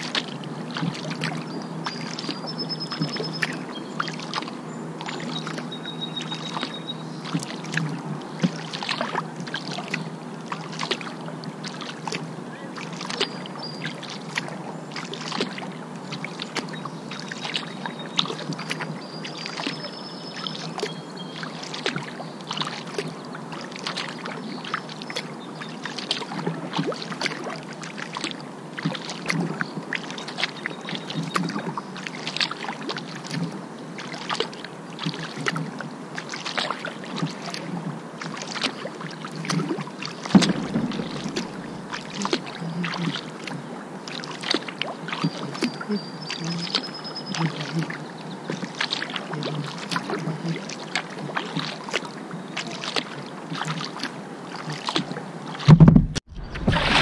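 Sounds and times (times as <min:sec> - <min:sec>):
low steady hum: 0:00.0 - 0:48.4
paddle splashing in water: 0:00.0 - 0:57.0.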